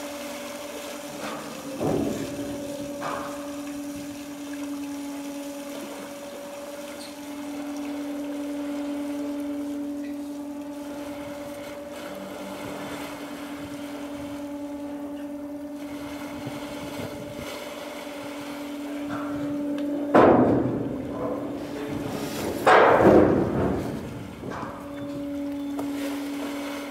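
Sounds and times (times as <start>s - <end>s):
ship machinery humming: 0.0s - 26.9s
water rushing along hull: 0.0s - 26.9s.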